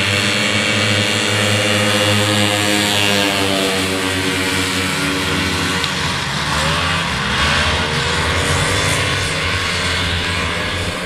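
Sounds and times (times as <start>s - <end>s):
snowmobiles passing at full throttle: 0.0s - 11.0s.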